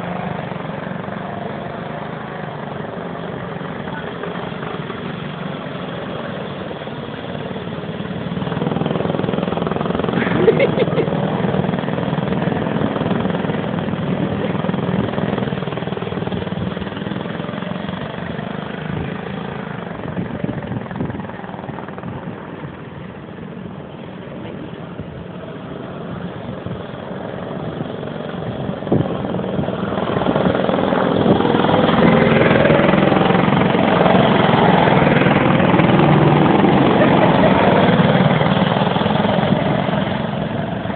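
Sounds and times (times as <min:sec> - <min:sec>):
go-kart engines running: 0:00.0 - 0:40.9.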